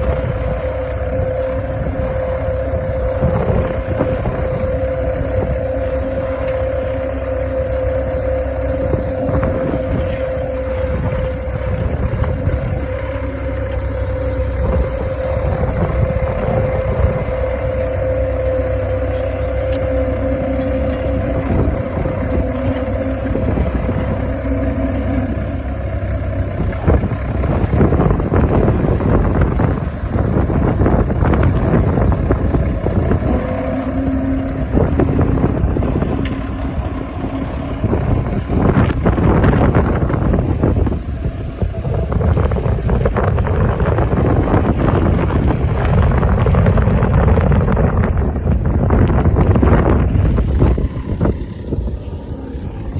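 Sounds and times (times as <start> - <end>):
steady whine: 0.0 - 52.9
tractor diesel engine running: 0.0 - 52.9.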